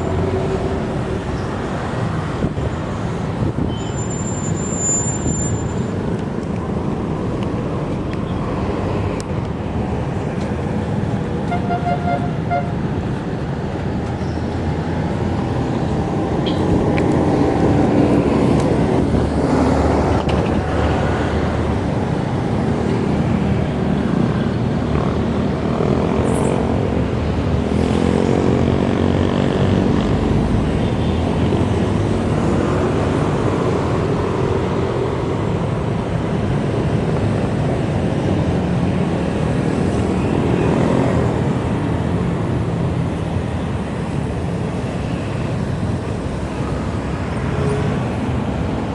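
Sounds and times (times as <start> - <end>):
motor vehicles passing: 0.0 - 3.7, 5.2 - 48.9
road and wind rumble: 0.0 - 48.9.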